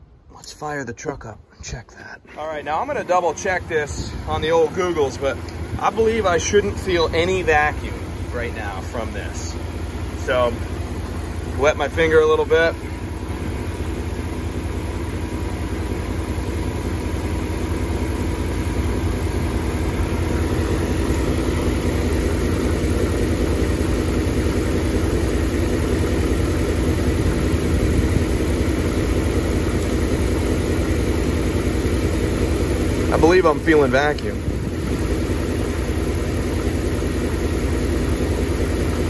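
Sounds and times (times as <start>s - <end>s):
truck engine idling roughly: 1.7s - 39.0s.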